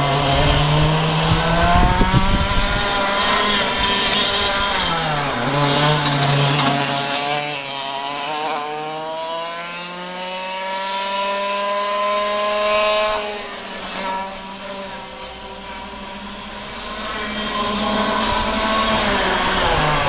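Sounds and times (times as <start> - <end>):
racing kart engine revving: 0.0 - 20.0.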